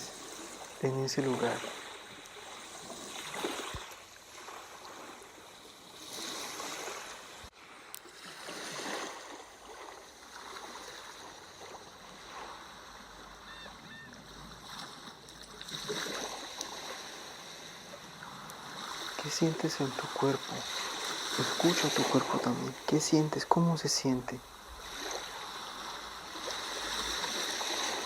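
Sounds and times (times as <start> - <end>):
sea waves washing in: 0.0 - 28.0.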